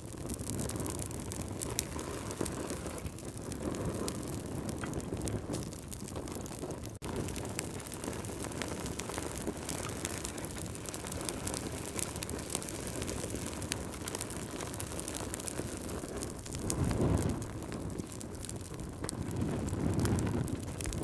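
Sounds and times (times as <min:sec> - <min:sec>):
fire crackling and popping: 0:00.0 - 0:21.0
fire rumbling in fireplace: 0:00.0 - 0:21.0.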